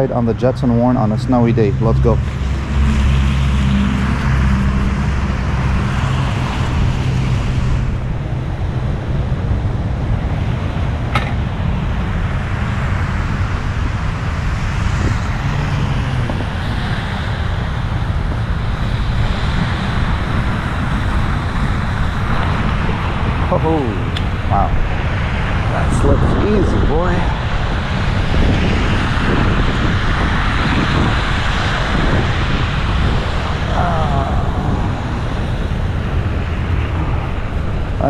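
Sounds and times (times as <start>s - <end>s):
wind and tyre noise: 0.0s - 38.0s.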